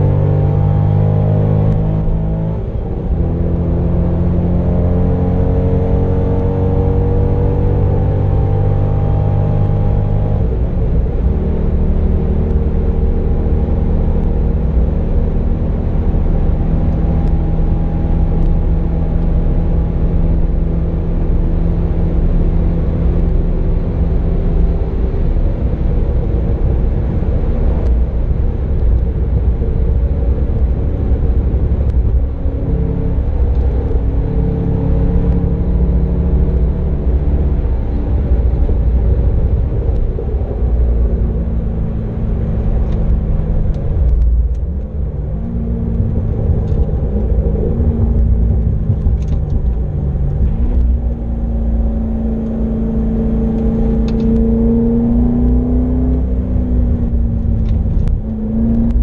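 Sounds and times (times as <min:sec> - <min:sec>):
car engine at speed: 0:00.0 - 0:59.0
road and wind rumble: 0:00.0 - 0:59.0.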